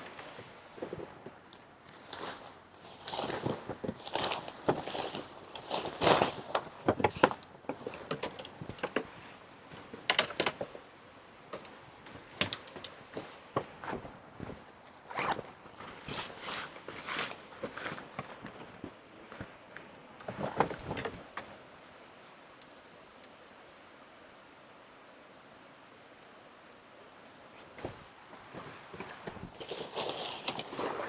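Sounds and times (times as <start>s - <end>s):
rustling and clicks of handling: 0.0s - 21.6s, 27.2s - 31.0s.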